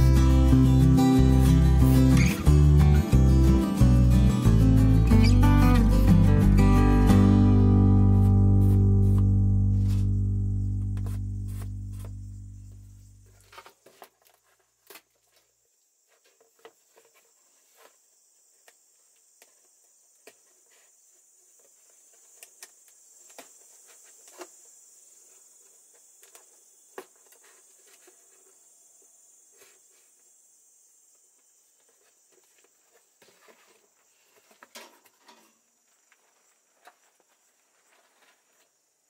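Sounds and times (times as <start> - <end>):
high-pitched background hiss: 0.0 - 39.0.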